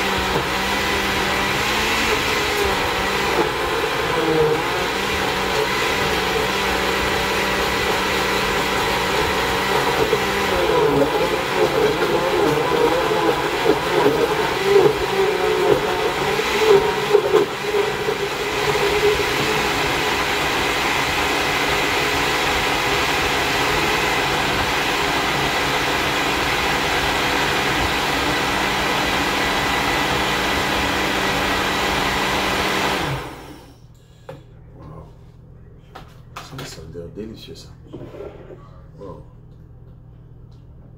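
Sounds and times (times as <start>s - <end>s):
blender churning frozen fruit: 0.0s - 33.7s.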